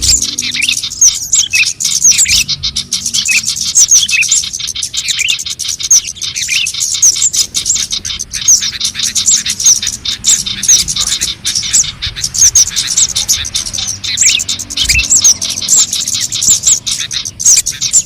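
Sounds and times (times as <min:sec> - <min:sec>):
high thin bird chirps: 0:00.0 - 0:18.0
rapid sharp bird ticks: 0:00.0 - 0:18.0.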